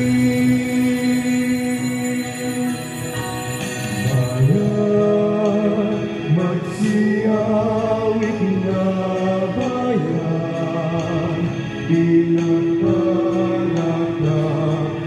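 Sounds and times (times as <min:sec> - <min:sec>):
men singing a hymn: 0:00.0 - 0:03.2, 0:04.0 - 0:15.0
organ accompaniment: 0:00.0 - 0:15.0.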